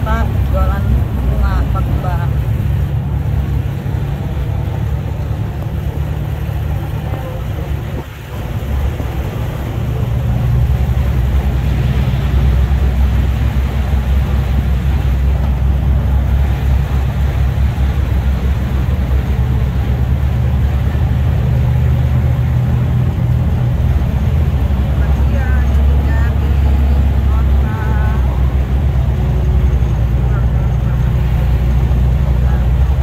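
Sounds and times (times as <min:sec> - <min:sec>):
car engine rumble: 0:00.0 - 0:33.0
road noise: 0:00.0 - 0:33.0.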